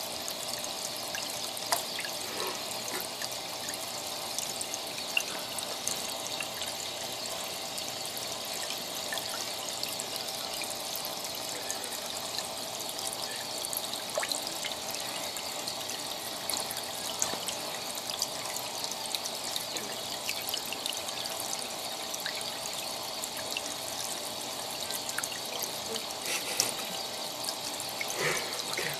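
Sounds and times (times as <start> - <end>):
aquarium water trickling and splashing: 0.0 - 28.9.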